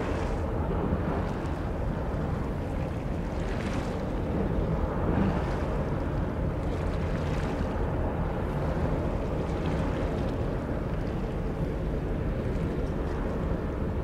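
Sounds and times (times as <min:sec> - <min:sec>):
distant ship rumble: 0:00.0 - 0:14.0
wind on microphone: 0:00.0 - 0:14.0.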